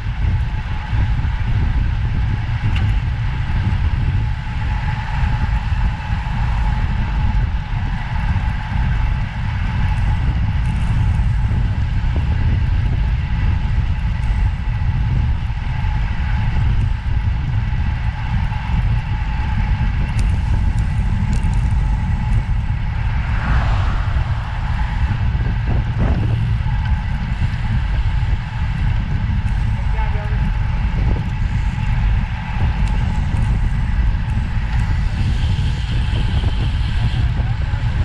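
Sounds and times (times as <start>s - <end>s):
faint steady whine: 0.0s - 38.0s
vehicle rumble: 0.0s - 38.0s.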